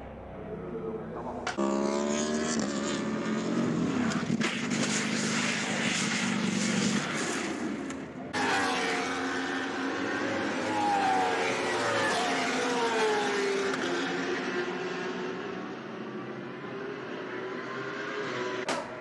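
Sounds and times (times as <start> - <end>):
racing motorcycle engines revving: 0.0 - 19.0.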